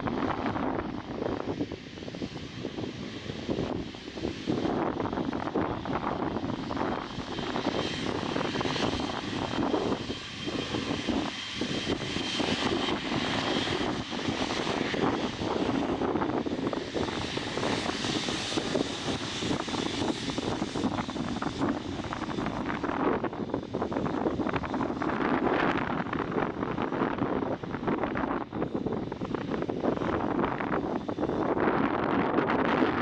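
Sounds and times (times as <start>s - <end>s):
jet engine rush: 0.0s - 33.0s.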